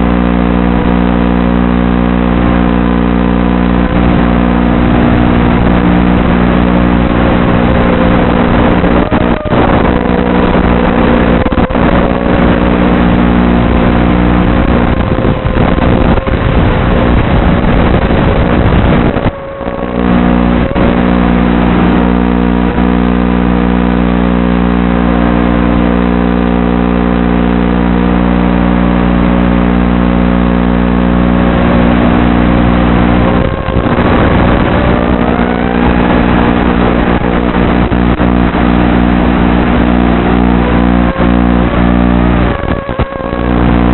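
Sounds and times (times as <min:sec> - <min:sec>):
quadcopter motors buzzing: 0:00.1 - 0:27.8, 0:30.5 - 0:43.9.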